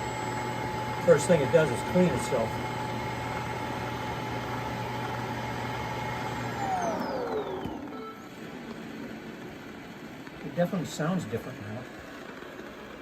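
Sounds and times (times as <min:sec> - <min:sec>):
suction motor running: 0:00.0 - 0:13.0.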